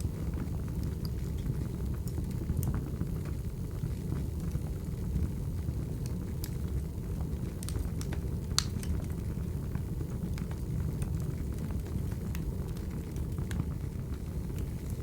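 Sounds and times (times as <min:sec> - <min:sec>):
fire flames rumbling: 0:00.0 - 0:15.0
wood fire crackles and pops: 0:00.0 - 0:15.0.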